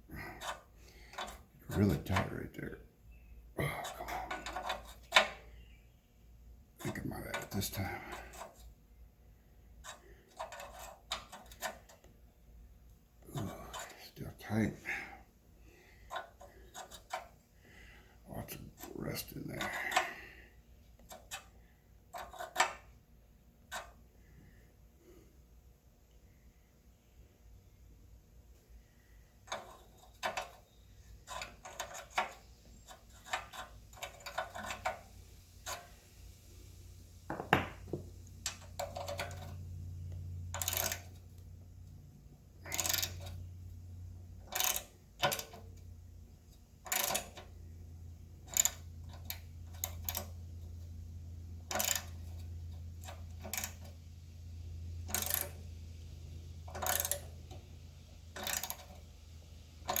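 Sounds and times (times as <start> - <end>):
low steady hum: 0.0 - 60.0.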